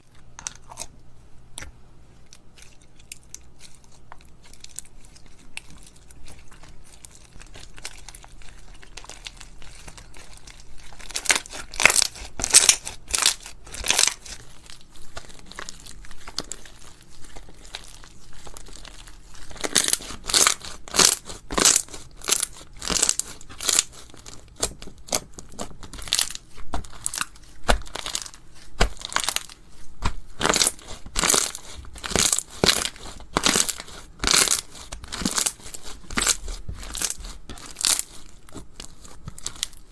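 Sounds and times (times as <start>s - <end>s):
crunchy slime crackling: 2.4s - 39.9s.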